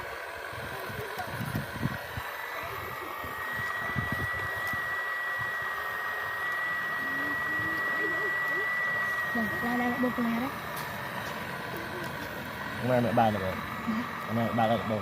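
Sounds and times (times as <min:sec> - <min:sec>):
high motor whine: 0:00.0 - 0:15.0
small electric motor whirring: 0:00.0 - 0:15.0.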